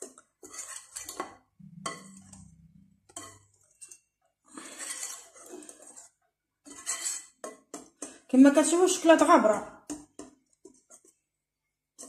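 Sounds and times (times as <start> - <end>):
whisk scraping a glass bowl: 0.0 - 8.9, 9.9 - 11.3.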